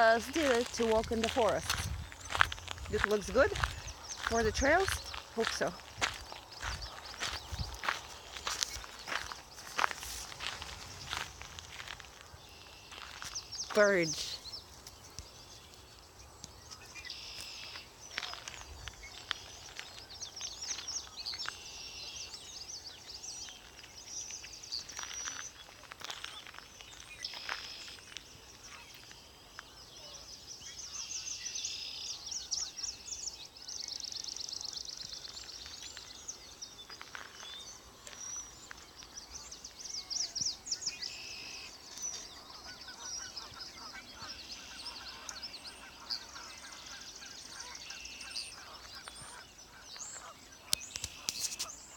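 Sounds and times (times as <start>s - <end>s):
wild birds singing: 0.0s - 51.9s.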